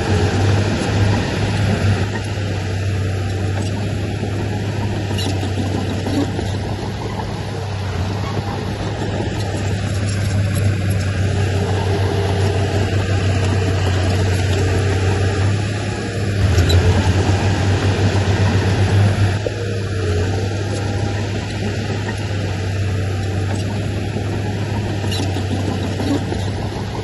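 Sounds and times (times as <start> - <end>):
heavy diesel machinery humming: 0.0 - 27.0.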